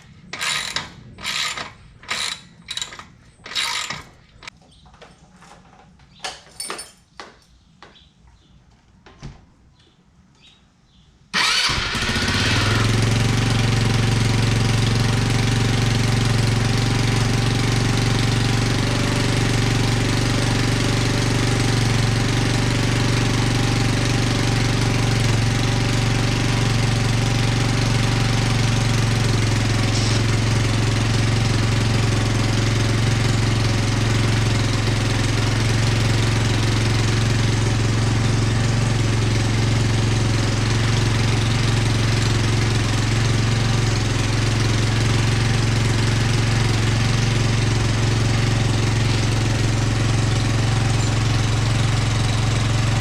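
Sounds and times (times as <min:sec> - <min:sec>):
scooter engine starting and idling: 0:00.0 - 0:04.6, 0:11.3 - 0:53.0.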